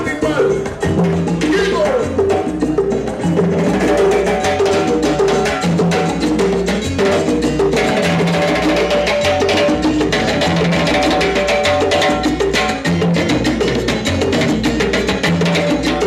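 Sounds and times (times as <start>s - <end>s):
hand percussion: 0.0s - 16.0s
latin dance music: 0.0s - 16.0s.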